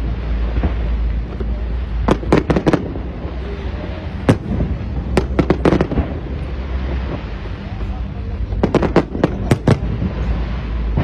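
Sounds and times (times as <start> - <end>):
fireworks bangs: 0.0 - 11.0
low rumble: 0.0 - 11.0.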